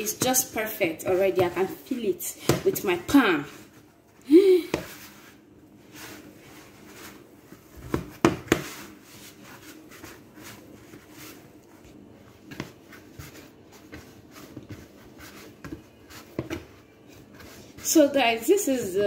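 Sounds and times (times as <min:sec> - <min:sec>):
dough being kneaded by hand: 0:00.0 - 0:19.0.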